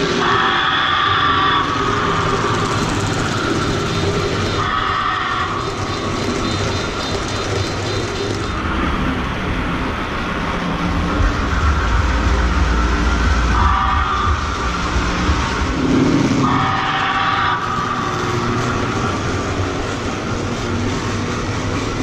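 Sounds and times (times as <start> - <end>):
model trains rolling on track: 0.0 - 22.0.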